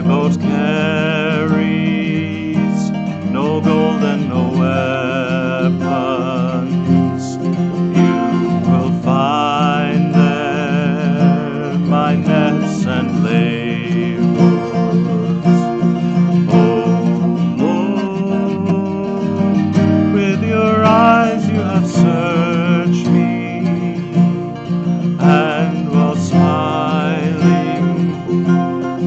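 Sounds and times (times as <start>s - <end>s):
person singing with vibrato: 0.0s - 29.0s
strummed acoustic guitar: 0.0s - 29.0s.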